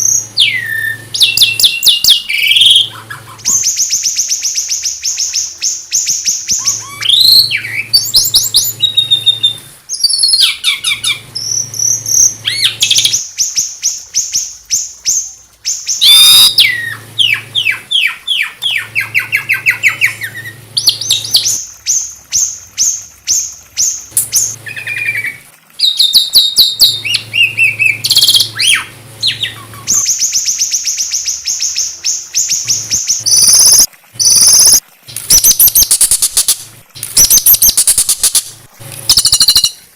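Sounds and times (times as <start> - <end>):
songbird singing trills and whistles: 0.0 - 38.4, 39.1 - 39.8.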